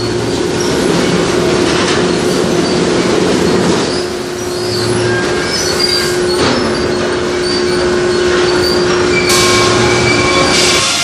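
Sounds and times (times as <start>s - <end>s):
mechanical clatter and metal scraping: 0.3s - 11.0s.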